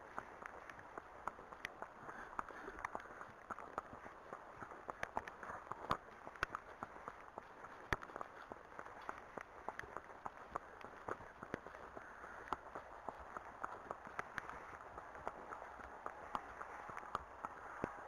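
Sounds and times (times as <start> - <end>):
horse hooves on tarmac: 0.0 - 18.0.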